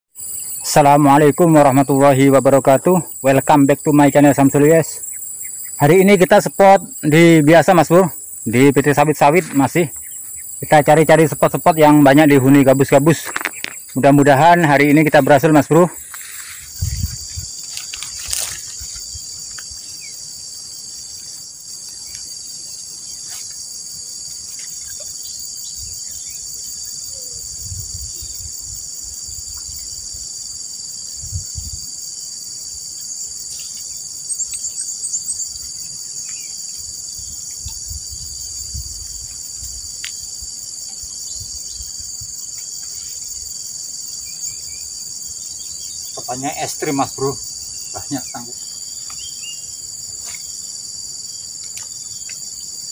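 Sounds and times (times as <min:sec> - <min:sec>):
insects chirring: 0:00.2 - 0:52.9.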